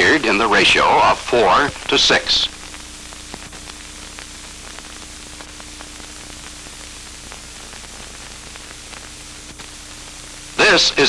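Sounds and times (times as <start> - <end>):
faint crackles: 0.0 - 11.0
film soundtrack hiss: 0.0 - 11.0
thin steady hum: 0.0 - 11.0.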